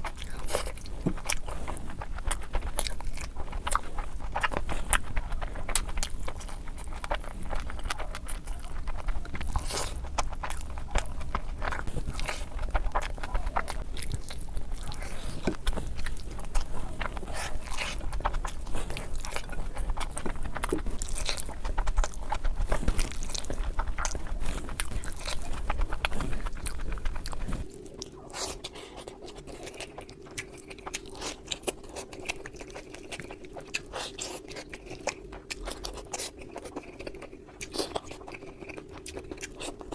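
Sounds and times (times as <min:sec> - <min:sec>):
faint steady hum: 0:00.0 - 0:39.9
wet chewing and crunching: 0:00.0 - 0:39.9.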